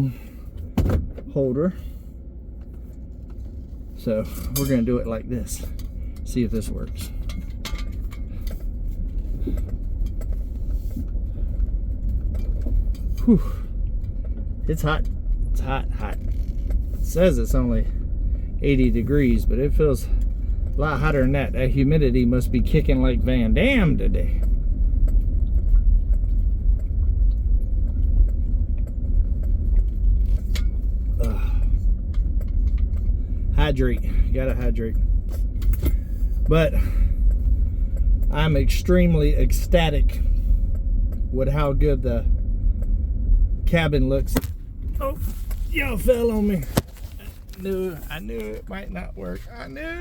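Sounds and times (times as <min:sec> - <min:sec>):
truck engine rumbling: 0:00.0 - 0:50.0.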